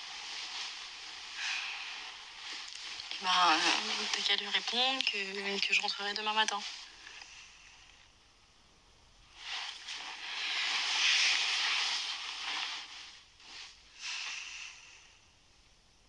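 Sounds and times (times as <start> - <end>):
bedsheets rustling: 0.0 - 7.9, 9.2 - 15.3.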